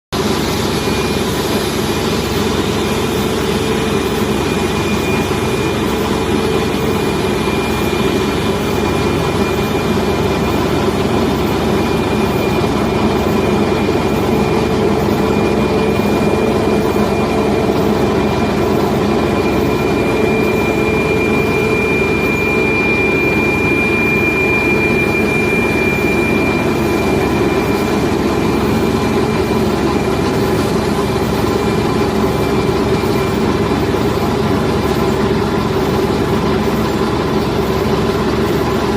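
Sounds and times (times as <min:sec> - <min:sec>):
high engine whine: 0:00.1 - 0:38.9
jet engine rumble: 0:00.2 - 0:36.9.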